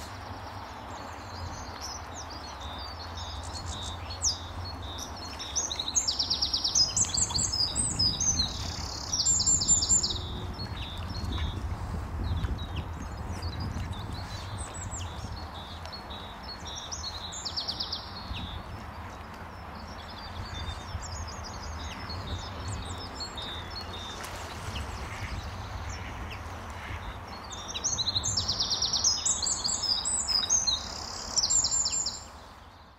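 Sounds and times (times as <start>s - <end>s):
songbirds chirping and trilling: 0.0s - 32.9s.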